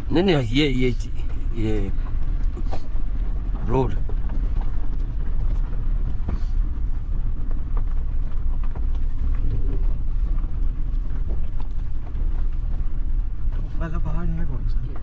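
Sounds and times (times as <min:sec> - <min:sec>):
car engine and road rumble: 0:00.0 - 0:15.0
car knocks and rattles: 0:00.0 - 0:15.0.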